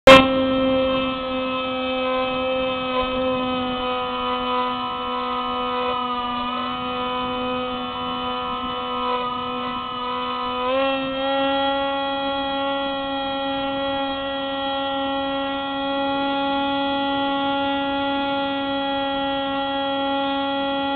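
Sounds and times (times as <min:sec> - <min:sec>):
electric motor and propeller whine: 0:00.0 - 0:20.9.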